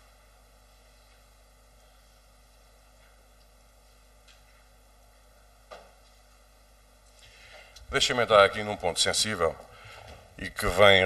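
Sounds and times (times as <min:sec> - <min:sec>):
low mains hum: 0:00.0 - 0:11.0.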